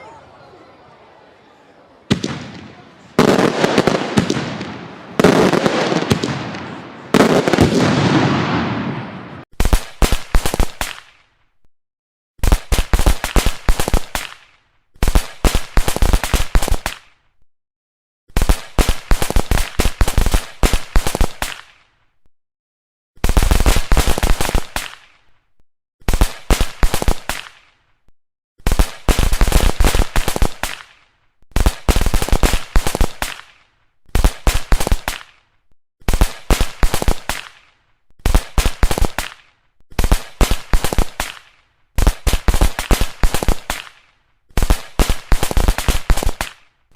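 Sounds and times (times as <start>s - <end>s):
firecrackers crackling: 2.0s - 11.4s, 12.4s - 17.1s, 18.3s - 22.0s, 23.2s - 25.3s, 26.0s - 27.9s, 28.6s - 46.8s.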